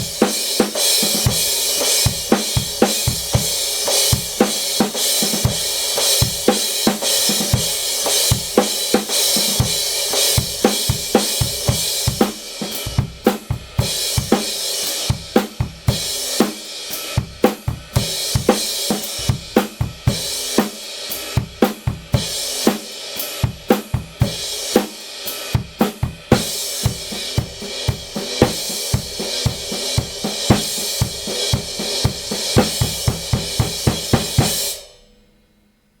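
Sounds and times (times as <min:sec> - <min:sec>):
drum kit groove: 0:00.0 - 0:35.1.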